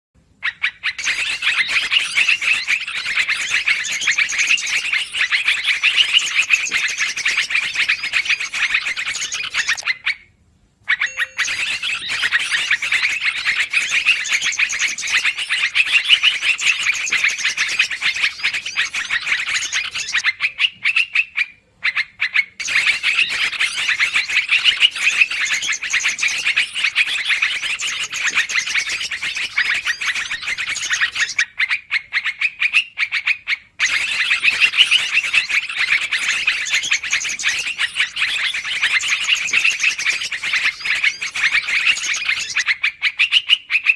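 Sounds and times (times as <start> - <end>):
flock of birds chattering: 0.9 - 9.9, 11.0 - 20.8, 22.6 - 31.4, 33.8 - 42.8.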